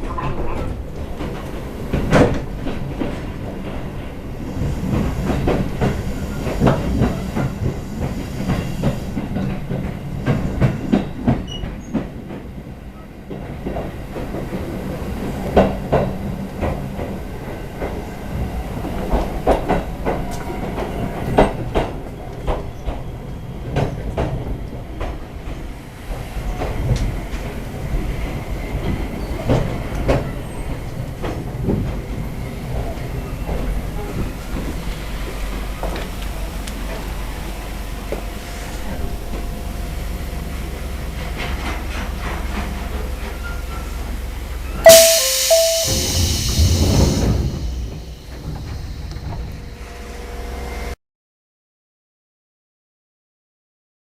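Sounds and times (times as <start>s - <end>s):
train low rumble: 0.0s - 51.0s.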